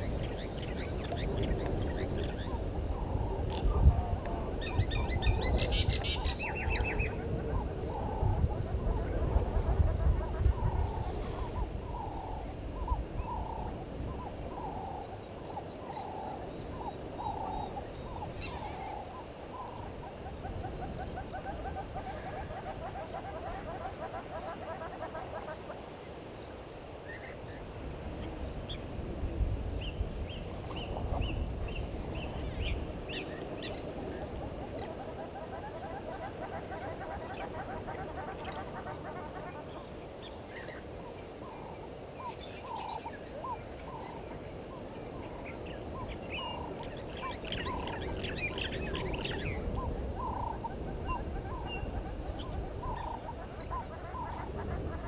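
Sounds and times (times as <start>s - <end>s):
wild birds calling: 0.0s - 26.2s, 29.9s - 55.0s.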